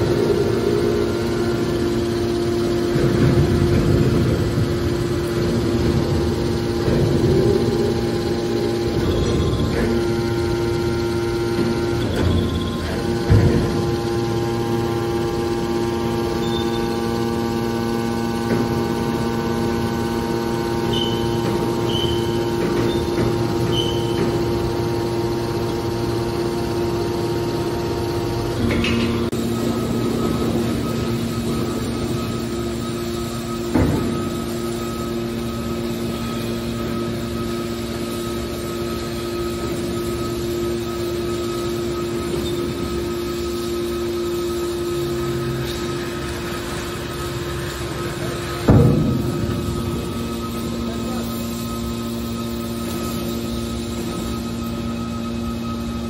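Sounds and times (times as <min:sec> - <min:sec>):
hydraulic baler motor humming: 0:00.0 - 0:56.0.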